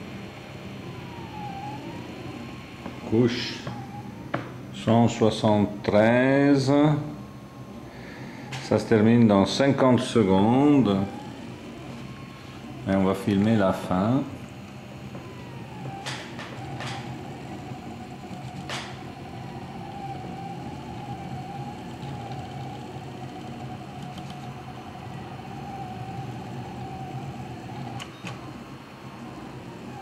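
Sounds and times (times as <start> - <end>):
steady low hum: 0.0 - 30.0
stepper motors whining: 0.0 - 30.0.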